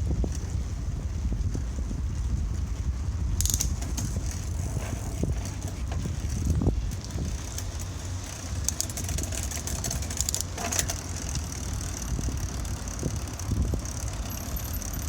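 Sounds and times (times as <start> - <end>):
bicycle tyre and drivetrain hiss: 0.0 - 15.0
wind rumble on microphone: 0.0 - 15.0.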